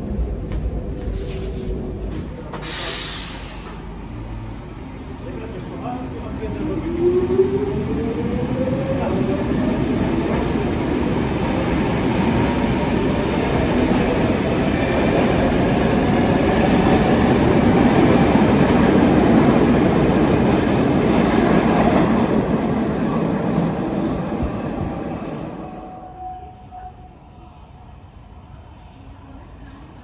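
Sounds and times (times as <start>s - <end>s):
metro train rumbling on rails: 0.0s - 30.0s.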